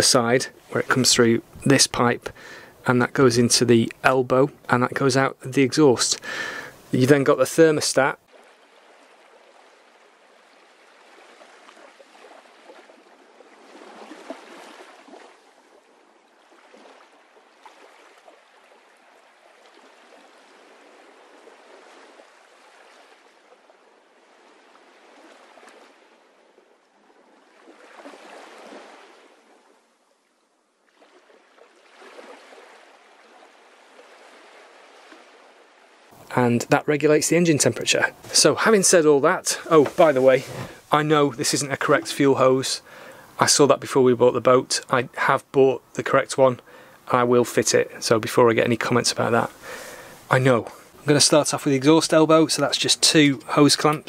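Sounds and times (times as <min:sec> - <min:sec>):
faint rushing water: 0:00.0 - 0:54.0.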